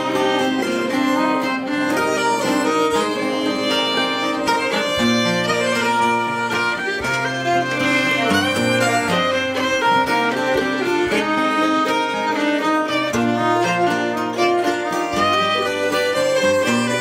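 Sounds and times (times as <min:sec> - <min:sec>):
bowed fiddle melody: 0:00.0 - 0:17.0
strummed guitar and mandolin: 0:00.0 - 0:17.0.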